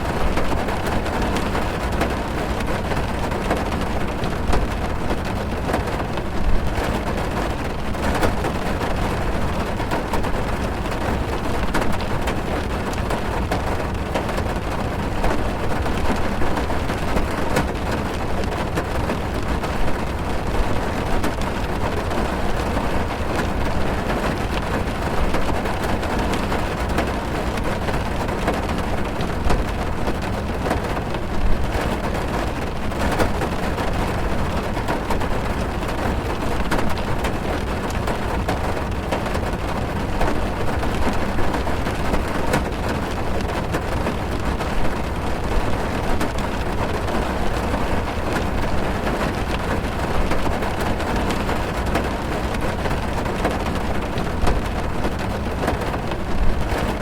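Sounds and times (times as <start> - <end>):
heavy rain drumming on car roof: 0.0 - 57.0.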